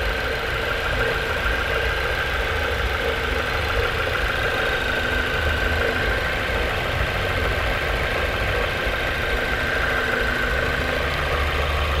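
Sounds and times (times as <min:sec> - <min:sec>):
car engine idling: 0:00.0 - 0:12.0
high-pitched belt whine: 0:00.0 - 0:12.0.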